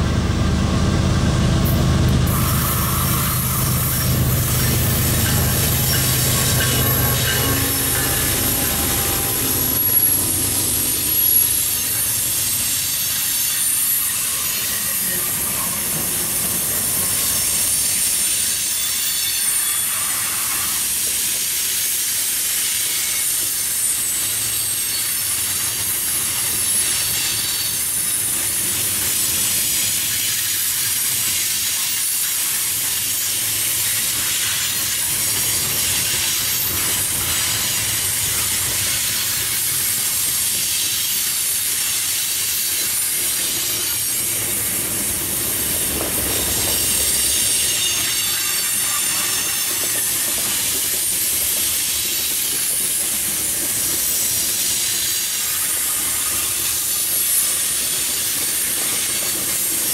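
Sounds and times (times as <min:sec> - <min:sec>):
wheel-on-rail rush: 0:00.0 - 0:18.5, 0:23.4 - 0:59.9
diesel locomotives passing: 0:00.0 - 0:59.9
high thin wheel squeal: 0:02.3 - 0:44.8, 0:46.3 - 0:53.0, 0:54.0 - 0:59.9.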